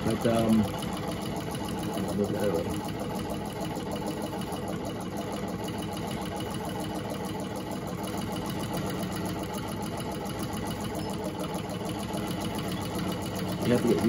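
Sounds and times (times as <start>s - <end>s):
sewing machine clattering: 0.0s - 14.0s.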